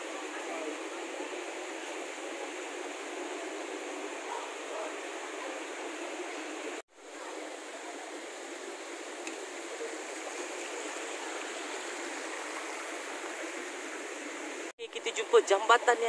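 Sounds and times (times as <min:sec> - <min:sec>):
river flowing over stones: 0:00.0 - 0:14.7.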